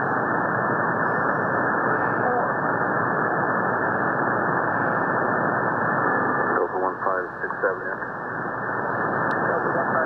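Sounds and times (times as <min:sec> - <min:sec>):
shortwave radio static hiss: 0:00.0 - 0:10.0.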